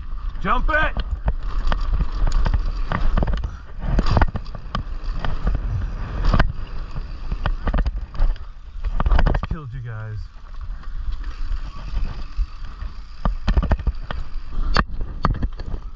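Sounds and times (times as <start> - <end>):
low rumble of bike ride: 0.0 - 15.9.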